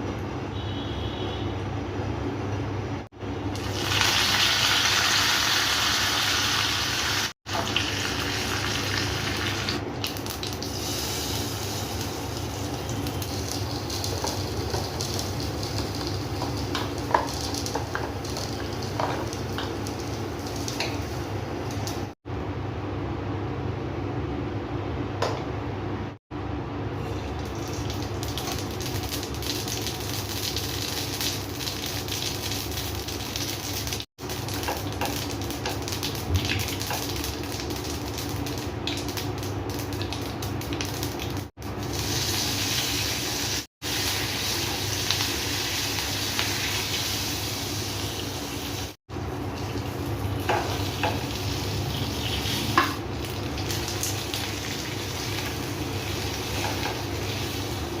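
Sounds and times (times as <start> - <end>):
food sizzling in oil: 3.5 - 22.2, 27.0 - 58.0.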